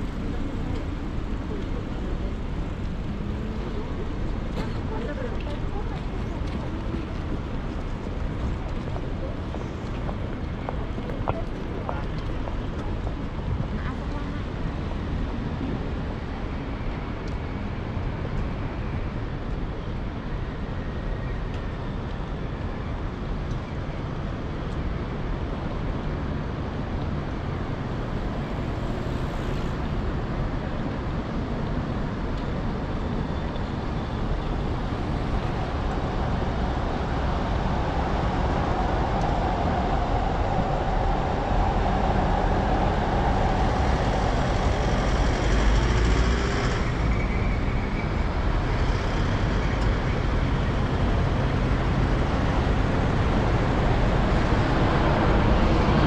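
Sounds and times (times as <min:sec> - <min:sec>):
street traffic hum: 0:00.0 - 0:56.0.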